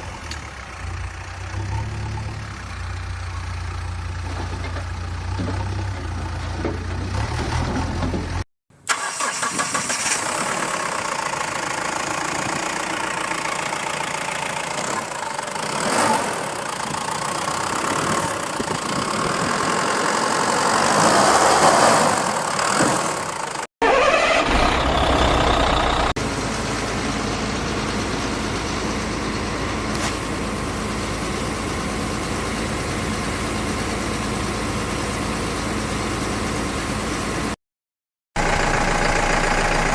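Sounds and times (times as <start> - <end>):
vehicle engine running: 0.0 - 7.2, 10.2 - 21.0, 22.3 - 37.6, 38.4 - 39.9.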